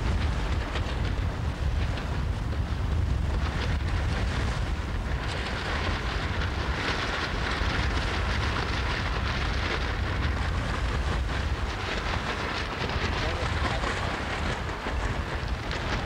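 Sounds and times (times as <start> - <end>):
choppy water: 0.0 - 16.0
wind buffeting the microphone: 0.0 - 16.0.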